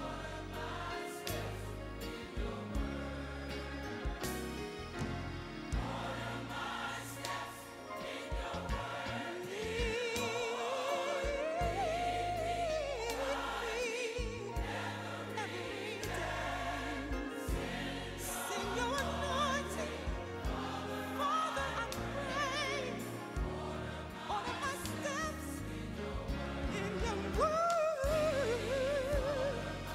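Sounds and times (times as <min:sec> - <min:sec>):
steady bass accompaniment: 0:00.0 - 0:10.5, 0:11.2 - 0:29.9
gospel choir singing: 0:00.0 - 0:29.9.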